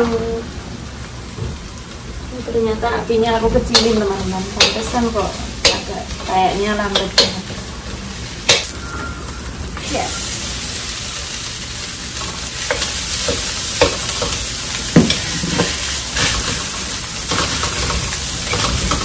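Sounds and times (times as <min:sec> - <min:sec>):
rice frying with sizzle: 0:00.0 - 0:19.0.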